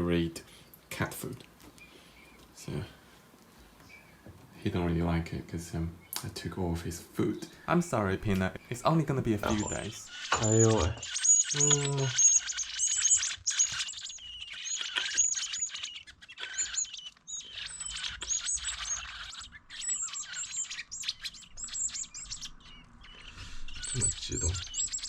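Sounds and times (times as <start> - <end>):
baby birds chirping: 3.8 - 25.0.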